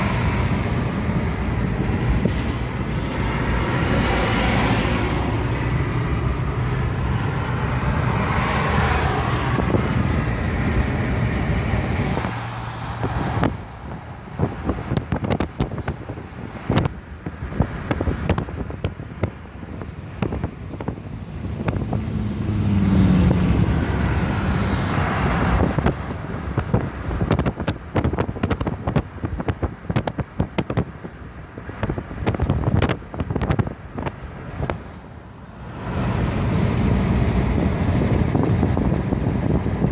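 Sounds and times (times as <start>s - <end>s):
wind buffeting microphone: 0.0s - 35.0s, 35.6s - 39.9s
car road noise: 0.0s - 39.9s.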